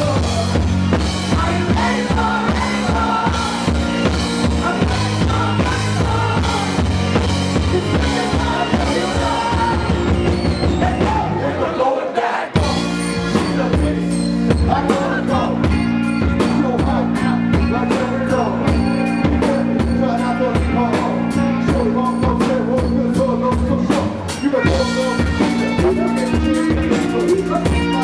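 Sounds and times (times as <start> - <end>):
drum kit beat: 0.0 - 11.5, 12.5 - 28.0
bass guitar: 0.0 - 28.0.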